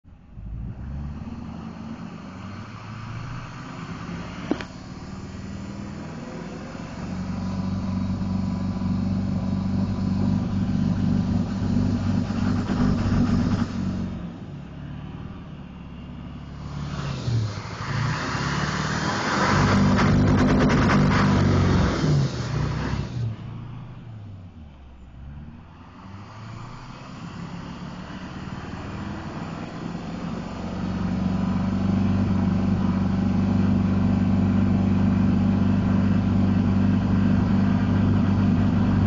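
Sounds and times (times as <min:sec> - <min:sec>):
diesel engine revving: 0:00.1 - 0:39.0.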